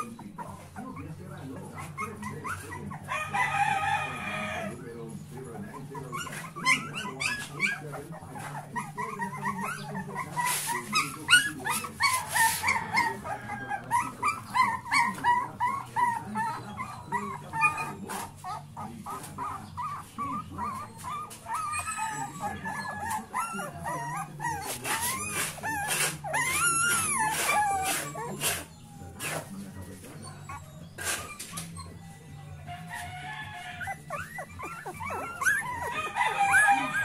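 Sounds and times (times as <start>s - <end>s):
puppies whimpering and squealing: 0.0s - 37.0s
puppies whining: 0.0s - 37.0s.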